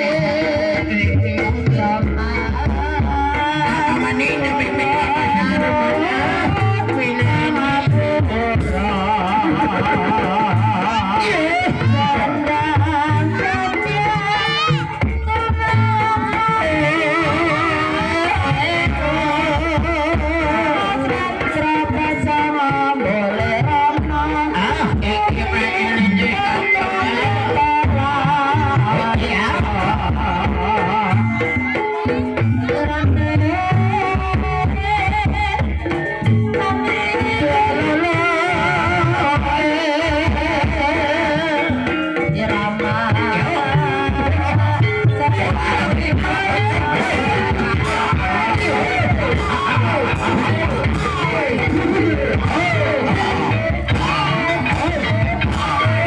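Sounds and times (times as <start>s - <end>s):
drums and instruments: 0.0s - 56.0s
person singing ornamented vocal: 0.0s - 56.0s.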